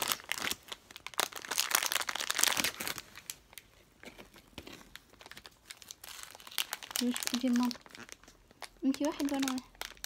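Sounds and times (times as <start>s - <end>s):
plastic candy packets crinkling: 0.0s - 10.0s.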